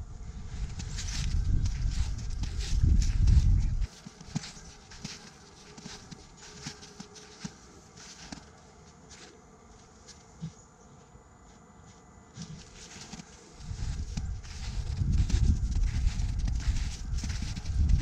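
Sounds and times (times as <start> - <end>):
footsteps crunching in snow: 0.3 - 18.0.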